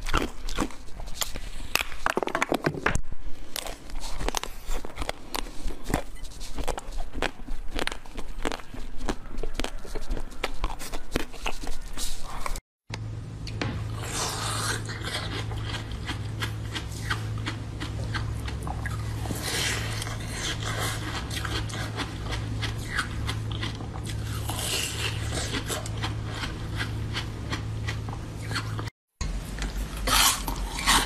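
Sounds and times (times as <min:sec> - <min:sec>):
chewing and biting: 0:00.0 - 0:02.3, 0:03.4 - 0:12.6, 0:14.0 - 0:28.9
low hum: 0:03.0 - 0:31.0.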